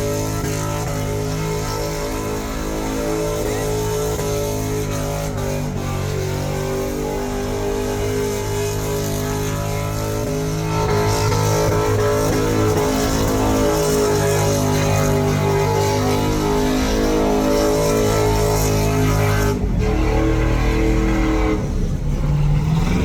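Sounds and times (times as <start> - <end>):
car engine revving high: 0.0 - 23.0.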